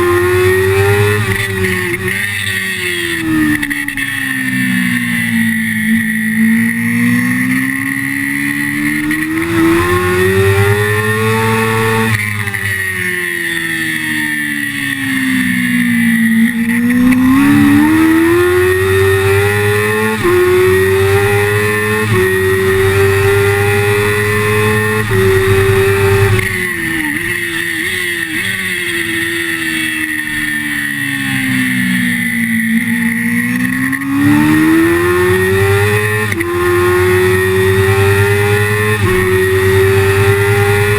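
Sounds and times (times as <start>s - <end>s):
motorcycle engine revving: 0.0s - 40.9s
steady high whine: 0.0s - 40.9s.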